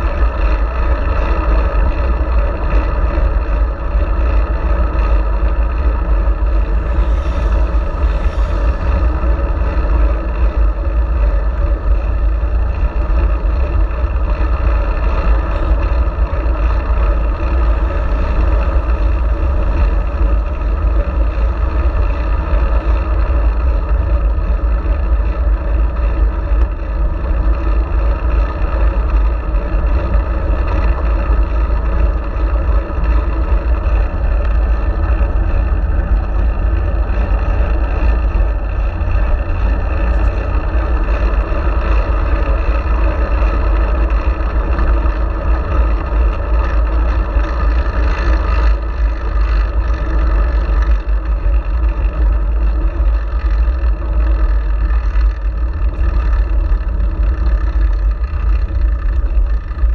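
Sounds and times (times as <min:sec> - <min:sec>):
road rumble: 0:00.0 - 0:59.9
wind noise: 0:00.0 - 0:59.9.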